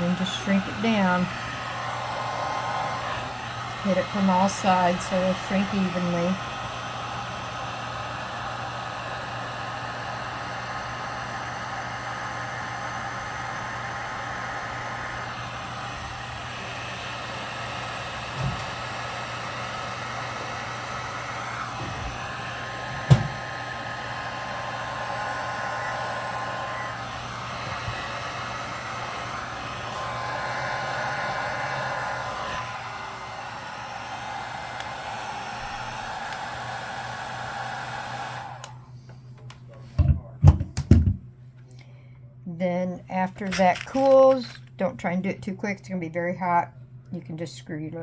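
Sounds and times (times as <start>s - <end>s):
heat gun blowing: 0.0s - 38.9s.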